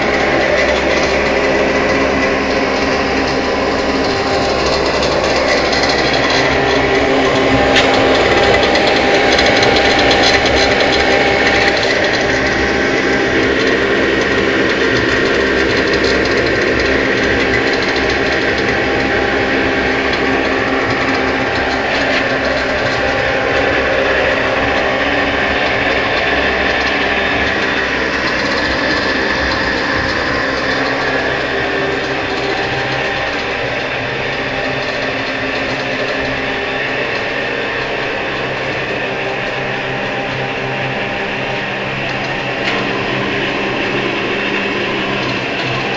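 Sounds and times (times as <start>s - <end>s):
constant hum: 0.0s - 45.9s
oil heater mechanical whirr: 0.0s - 45.9s.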